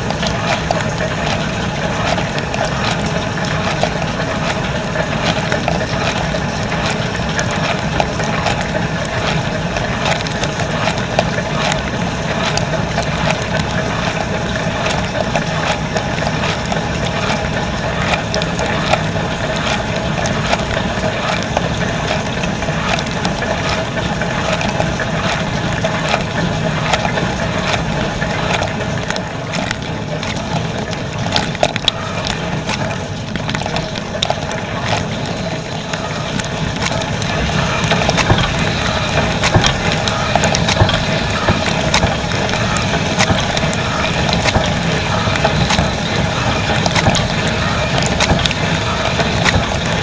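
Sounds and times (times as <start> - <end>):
dishwasher pump hum: 0.0 - 50.0
water spraying in dishwasher: 0.0 - 50.0.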